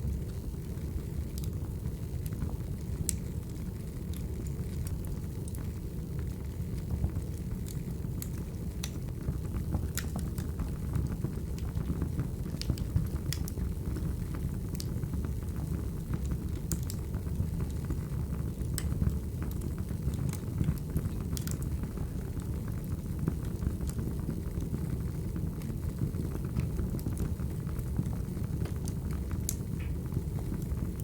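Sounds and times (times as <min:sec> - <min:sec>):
burning logs crackling and popping: 0:00.0 - 0:31.0
low rumble of flames: 0:00.0 - 0:31.0.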